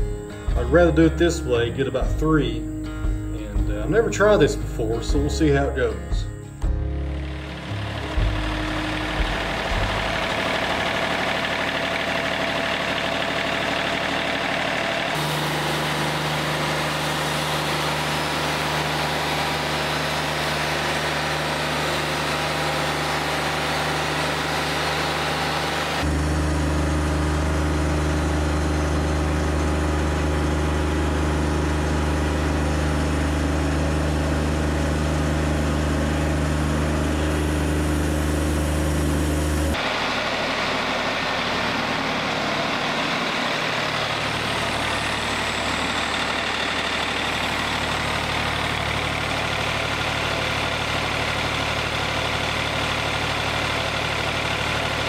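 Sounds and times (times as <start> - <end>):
low engine hum: 0.0 - 55.0
band sawmill cutting log: 3.4 - 6.2, 6.9 - 55.0.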